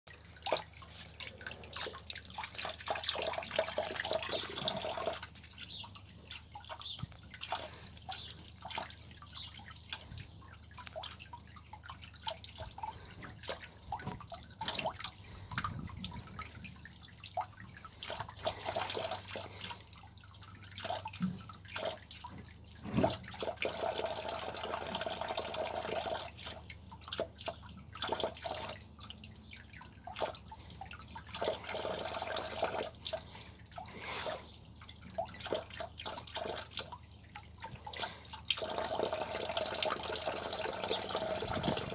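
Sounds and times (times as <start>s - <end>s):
cat drinking splashes: 0.1s - 41.9s
tap water trickling into sink: 0.1s - 41.9s.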